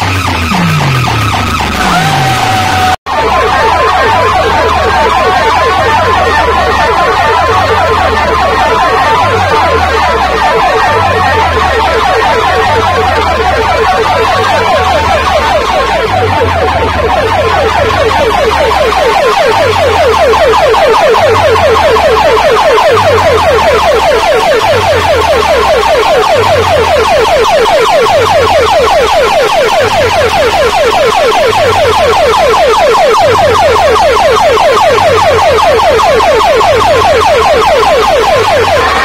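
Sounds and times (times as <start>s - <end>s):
electronic siren-like wail: 0.0s - 39.0s
pulsing bass beat: 0.0s - 39.0s.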